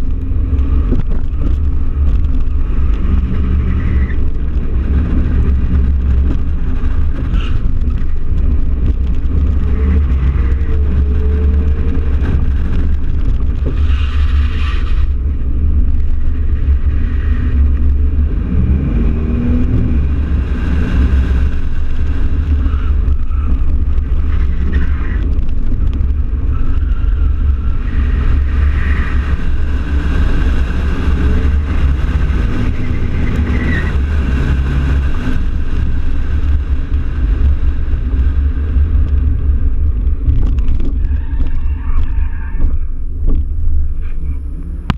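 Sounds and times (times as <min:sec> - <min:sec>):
pickup engine: 0:00.0 - 0:44.9
wind rumble on microphone: 0:00.0 - 0:44.9.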